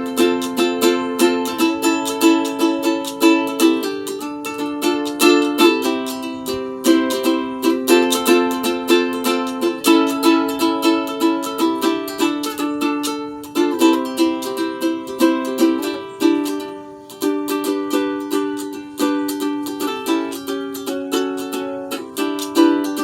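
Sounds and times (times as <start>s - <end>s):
ukulele strumming chords: 0.0s - 23.0s.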